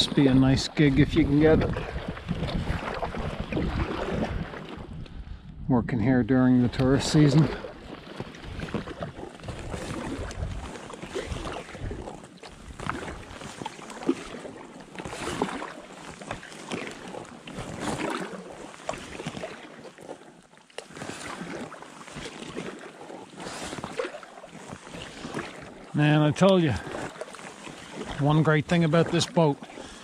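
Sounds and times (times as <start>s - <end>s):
paddle strokes splashing in water: 0.0s - 5.2s, 6.4s - 30.0s.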